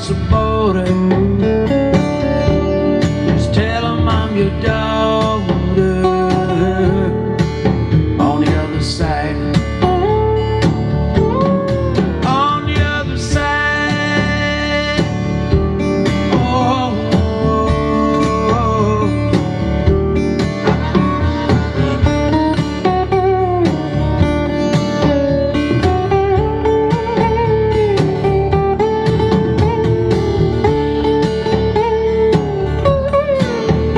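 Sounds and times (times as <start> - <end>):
guitar music with singing: 0.0 - 33.9.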